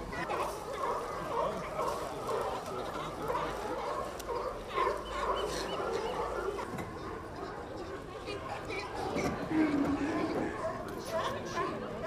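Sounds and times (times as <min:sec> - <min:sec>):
sea lions barking: 0:00.0 - 0:12.0.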